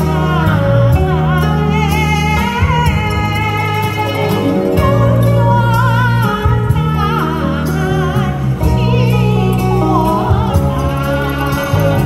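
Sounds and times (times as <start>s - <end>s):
instrumental accompaniment with bass: 0.0s - 12.0s
woman singing with vibrato: 0.0s - 12.0s.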